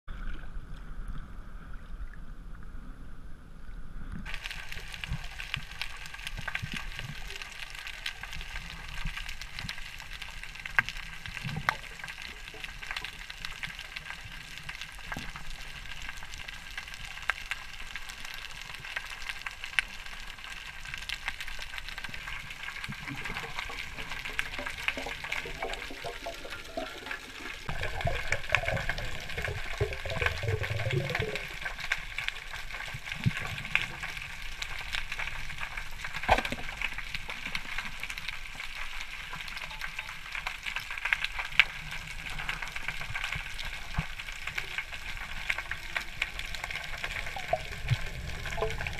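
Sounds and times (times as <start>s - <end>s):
sharp clicks and crackles: 4.1s - 48.9s.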